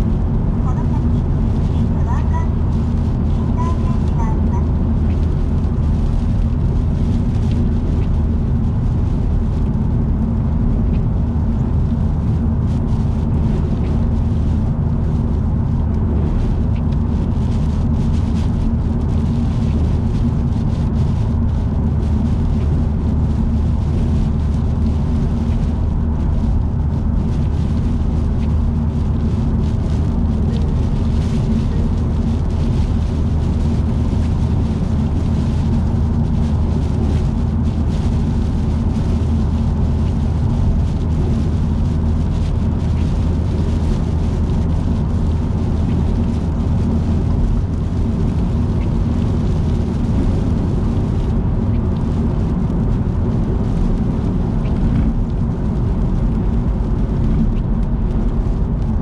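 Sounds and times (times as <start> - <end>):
car engine and tyres droning: 0.0 - 59.0.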